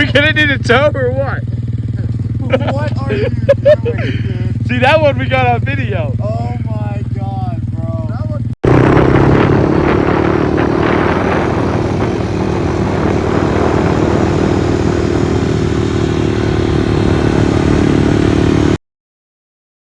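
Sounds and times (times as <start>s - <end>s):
pit bike engine running: 0.0s - 18.8s.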